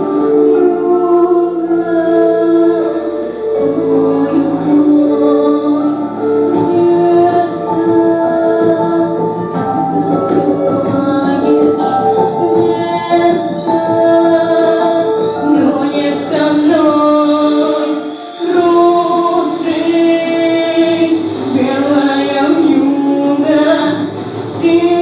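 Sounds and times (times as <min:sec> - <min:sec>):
voices singing sustained notes: 0:00.0 - 0:25.0.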